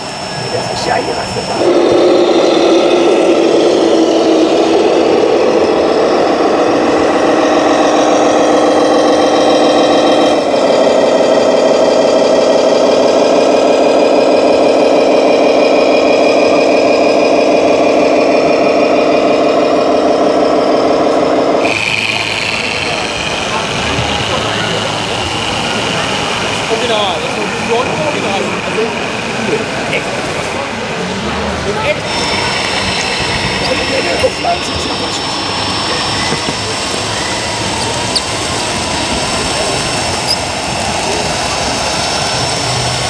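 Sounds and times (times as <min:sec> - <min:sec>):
simulated diesel truck engine idling: 0:00.0 - 0:43.0.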